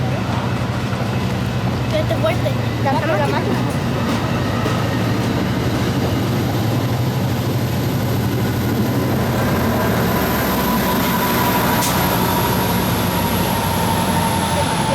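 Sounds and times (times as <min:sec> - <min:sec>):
diesel locomotive engine rumble: 0:00.0 - 0:14.9.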